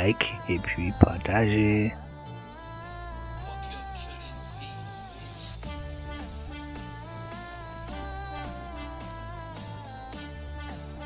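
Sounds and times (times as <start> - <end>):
electronic synth music: 0.8 - 11.0.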